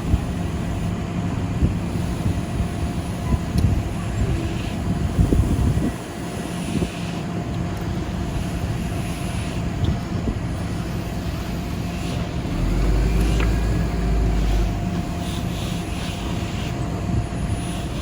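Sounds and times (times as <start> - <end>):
engine running steadily: 0.0 - 18.0
wind rumble on microphone: 0.0 - 18.0.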